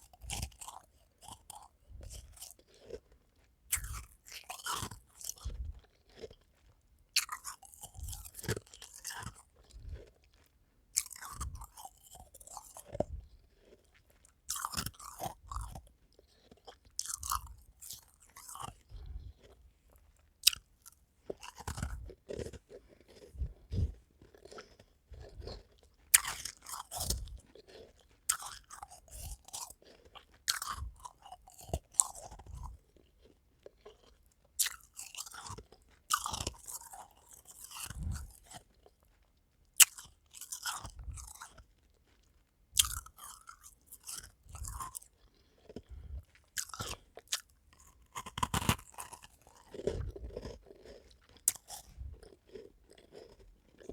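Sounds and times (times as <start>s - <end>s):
crunching and chewing ice cubes: 0.0s - 53.9s.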